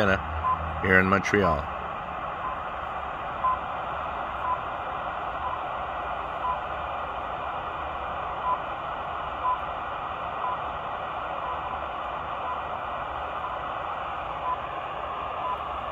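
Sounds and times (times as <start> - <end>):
static hiss: 0.0 - 15.9.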